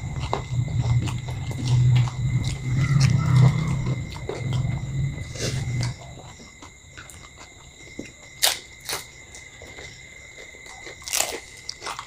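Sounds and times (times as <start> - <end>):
crunching while eating: 0.0 - 12.0.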